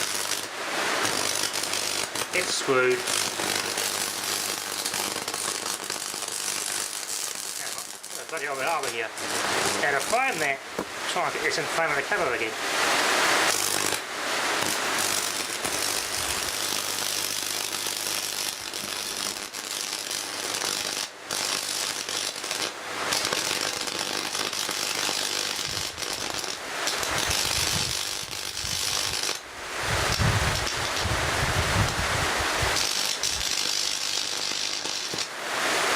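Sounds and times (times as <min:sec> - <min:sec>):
electric arc crackling buzz: 0:00.0 - 0:35.9.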